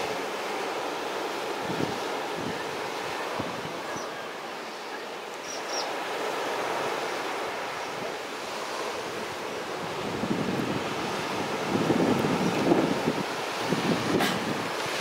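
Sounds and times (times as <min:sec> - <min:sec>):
wind gusting on microphone: 0:00.0 - 0:04.7, 0:05.6 - 0:15.0
surf breaking on a beach: 0:00.0 - 0:15.0.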